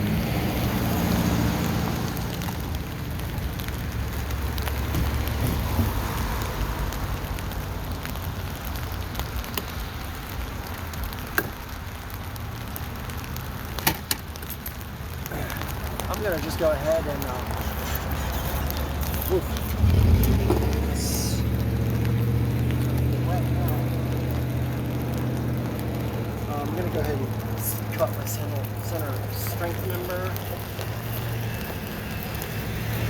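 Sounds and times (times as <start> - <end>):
rain on a tent: 0.0 - 33.0.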